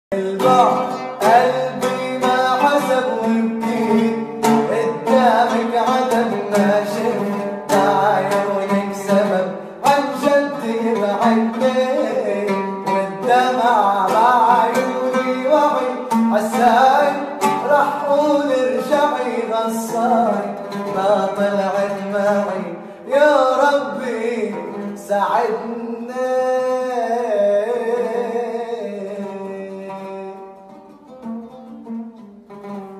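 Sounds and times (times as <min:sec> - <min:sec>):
person singing: 0:00.1 - 0:30.9
plucked string instrument: 0:00.1 - 0:32.9.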